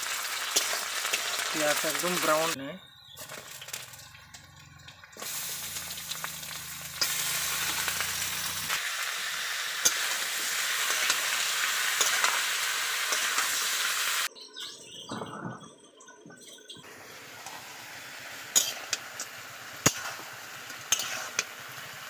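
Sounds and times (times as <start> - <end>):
food sizzling in a wok: 0.0 - 14.3, 16.9 - 22.0.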